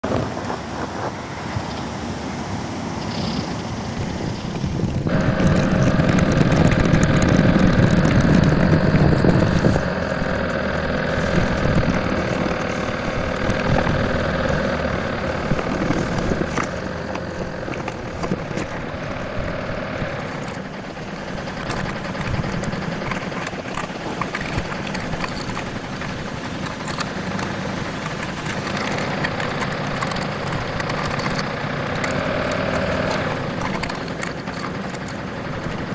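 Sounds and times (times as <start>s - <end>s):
truck engine running: 0.0s - 35.9s.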